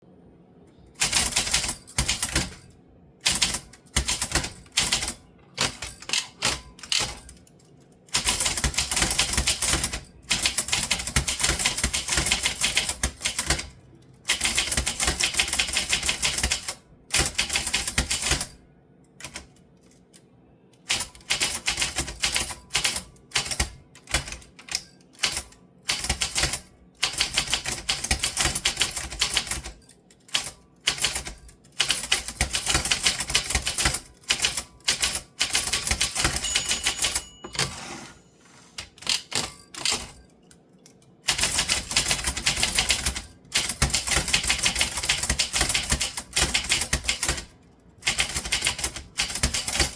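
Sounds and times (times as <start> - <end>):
typewriter typing fast: 1.0 - 2.6, 3.2 - 7.4, 8.1 - 18.5, 19.2 - 19.5, 20.8 - 37.8, 38.8 - 40.2, 41.3 - 49.9.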